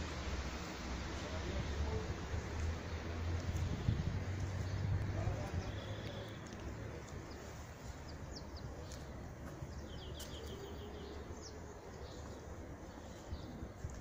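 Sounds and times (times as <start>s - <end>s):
small birds chirping: 2.7s - 14.0s.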